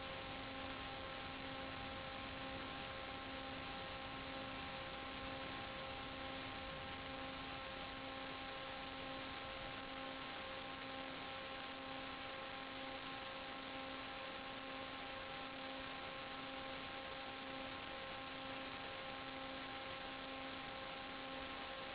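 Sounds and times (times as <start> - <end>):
electrical hum with hiss: 0.0 - 21.9.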